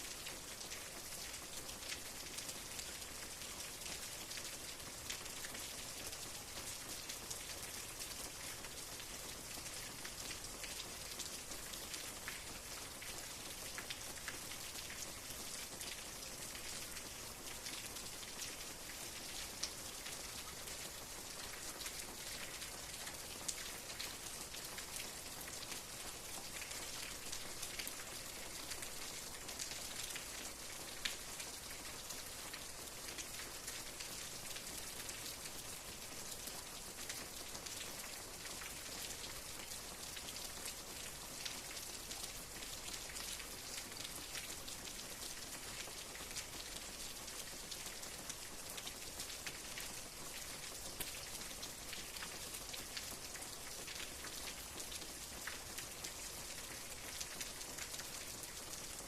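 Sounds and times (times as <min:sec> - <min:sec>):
raindrops ticking on a surface: 0:00.0 - 0:59.0
steady rain: 0:00.0 - 0:59.0.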